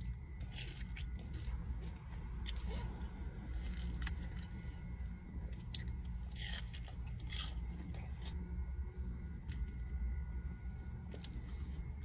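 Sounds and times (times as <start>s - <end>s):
chewing crispy fried food: 0.0s - 12.0s
low hum: 0.0s - 12.0s.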